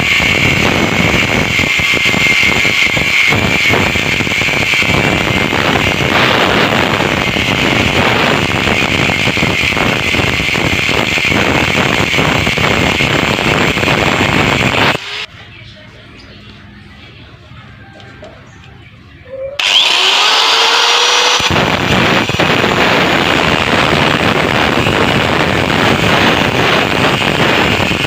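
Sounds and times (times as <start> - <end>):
angle grinder cutting metal: 0.0 - 15.3, 19.6 - 28.0.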